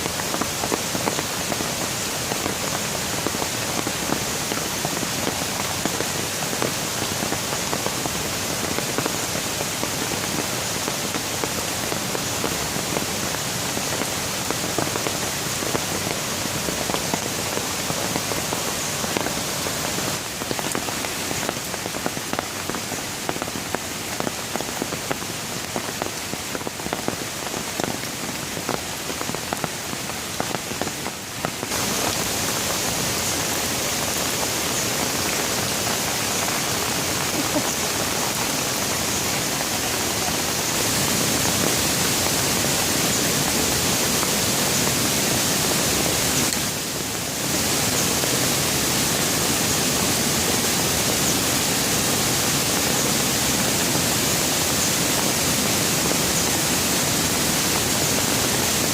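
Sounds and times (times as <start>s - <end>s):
heavy rain hiss: 0.0s - 58.9s
raindrops pattering: 0.0s - 58.9s.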